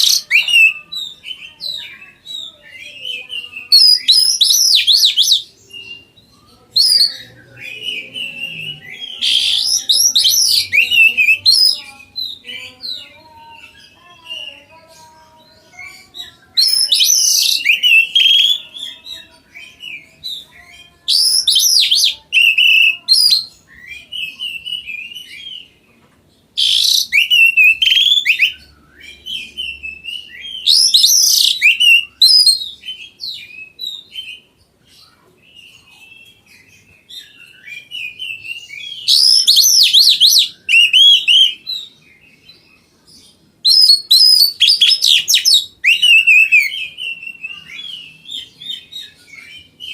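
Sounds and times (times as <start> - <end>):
magpie-robin singing: 0.0 - 49.9.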